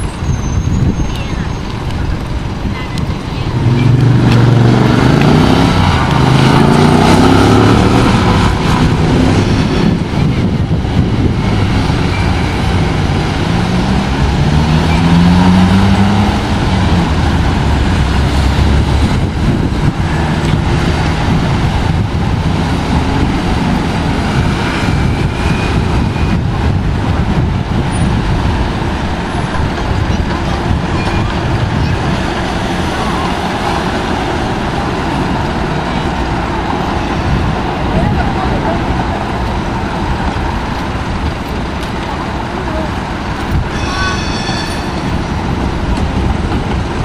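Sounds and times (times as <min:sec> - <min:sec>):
traffic engine and tyre rumble: 0:00.0 - 0:47.0.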